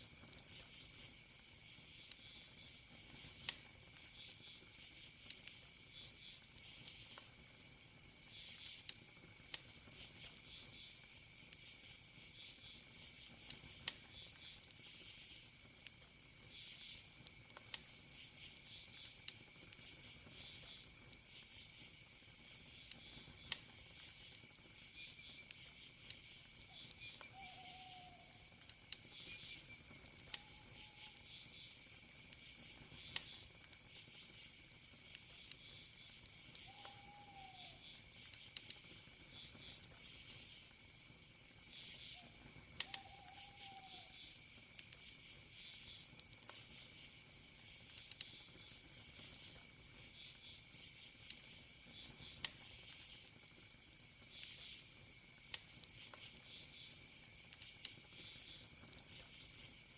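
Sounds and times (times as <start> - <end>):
campfire wood crackling: 0.0 - 59.9
crickets chirping: 0.0 - 59.9.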